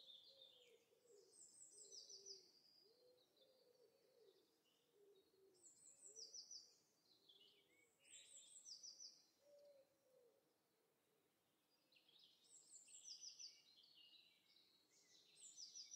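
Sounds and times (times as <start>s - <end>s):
small birds singing: 0.0s - 9.7s, 11.7s - 15.9s.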